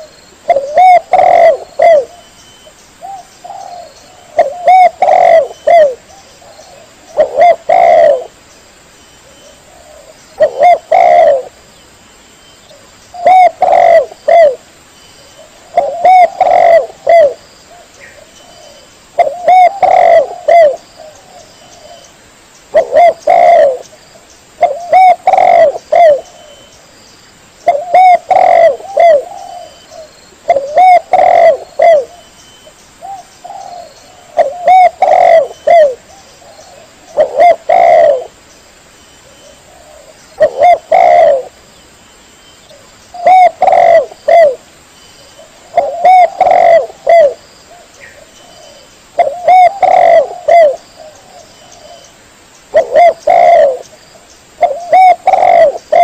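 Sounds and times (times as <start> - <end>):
dove cooing: 0.0 - 8.4, 9.2 - 11.6, 12.7 - 14.6, 15.3 - 22.1, 22.7 - 23.9, 24.6 - 26.7, 27.6 - 32.3, 33.0 - 38.4, 39.2 - 41.6, 42.7 - 44.6, 45.4 - 52.1, 52.7 - 53.9, 54.6 - 56.0.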